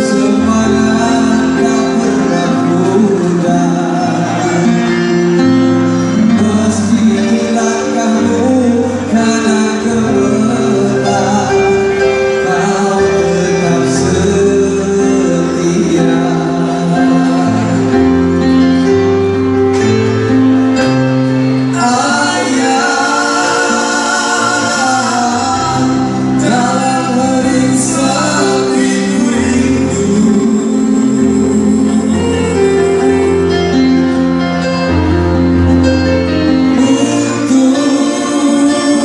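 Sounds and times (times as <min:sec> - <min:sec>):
man singing into a microphone: 0:00.0 - 0:19.1, 0:21.3 - 0:34.3, 0:34.9 - 0:39.0
keyboard: 0:00.0 - 0:39.0.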